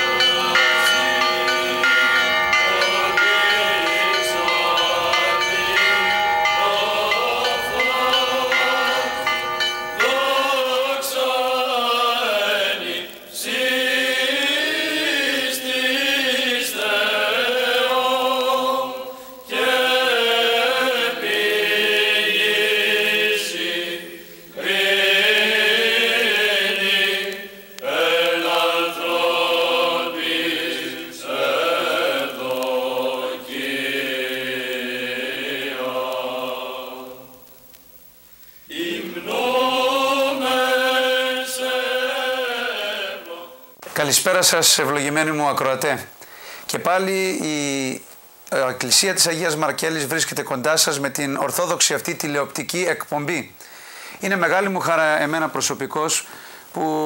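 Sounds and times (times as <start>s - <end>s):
church chant singing: 0.0s - 37.7s, 38.7s - 53.5s.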